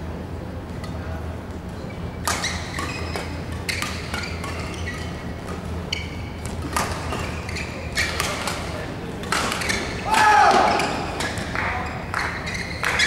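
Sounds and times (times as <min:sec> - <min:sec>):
steady low hum: 0:00.0 - 0:13.0
shoes squeaking on court: 0:01.5 - 0:13.0
racket hitting shuttlecock: 0:02.2 - 0:13.0.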